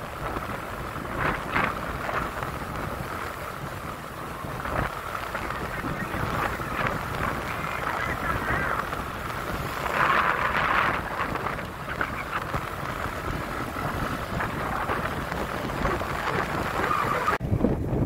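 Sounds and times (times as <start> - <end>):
moving vehicle rumble: 0.0 - 18.0
wind buffeting microphone: 0.0 - 18.0.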